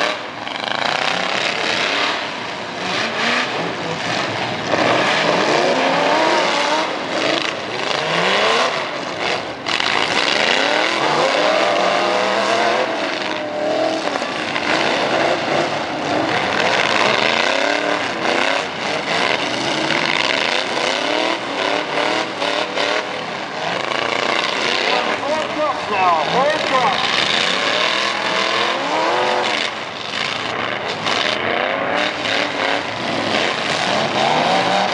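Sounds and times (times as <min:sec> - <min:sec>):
truck engines revving: 0:00.0 - 0:34.9.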